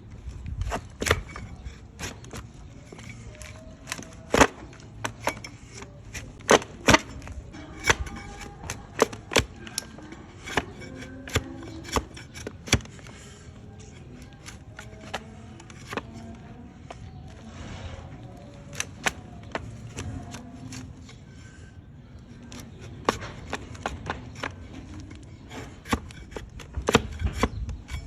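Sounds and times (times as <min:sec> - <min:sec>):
hoof trimming tools cracking: 0:00.2 - 0:17.4, 0:18.2 - 0:21.6, 0:22.2 - 0:28.0.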